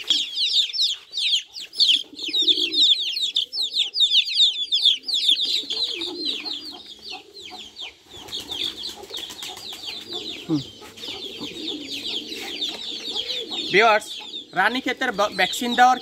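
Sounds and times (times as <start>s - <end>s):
chicks peeping: 0.0s - 16.0s
pigeon cooing: 0.0s - 16.0s.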